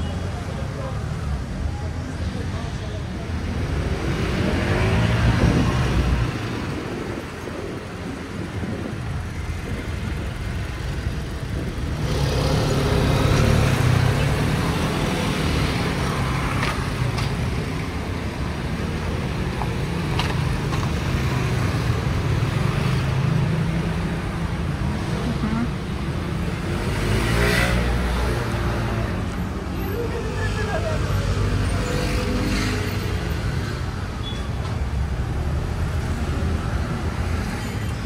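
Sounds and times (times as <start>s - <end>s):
cars and scooters driving past: 0.0s - 38.0s
tyres on the road: 0.0s - 38.0s.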